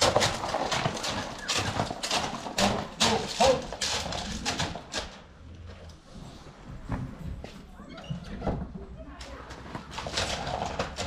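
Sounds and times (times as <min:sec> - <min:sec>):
horse hooves clattering: 0:00.0 - 0:11.0.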